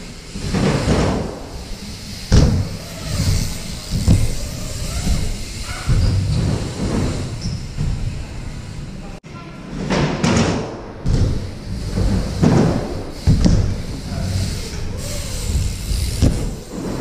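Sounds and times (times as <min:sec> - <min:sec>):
bmx wheels rolling on wooden ramps: 0:00.0 - 0:09.0, 0:09.7 - 0:17.0.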